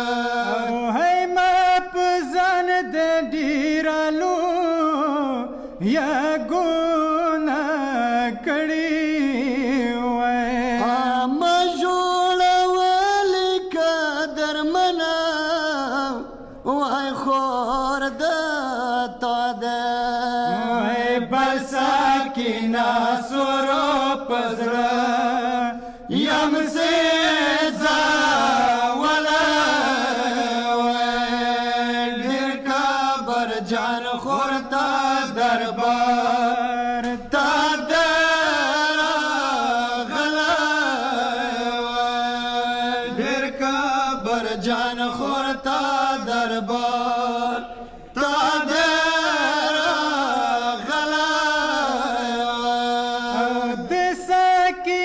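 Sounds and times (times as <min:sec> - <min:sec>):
man singing into a microphone: 0:00.0 - 0:55.0
men chanting a lament: 0:00.0 - 0:55.0.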